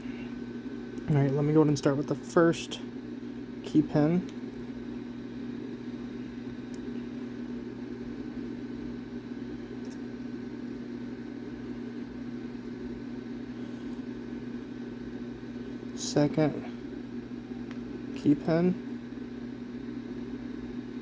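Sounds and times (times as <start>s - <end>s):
motor or fan humming: 0.0s - 21.0s.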